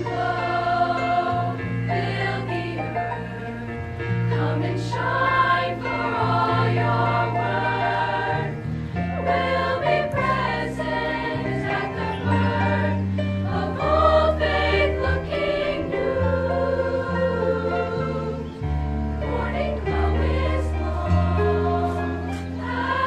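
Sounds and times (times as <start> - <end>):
bass line accompaniment: 0.0 - 23.0
women's choir singing in harmony: 0.0 - 23.0.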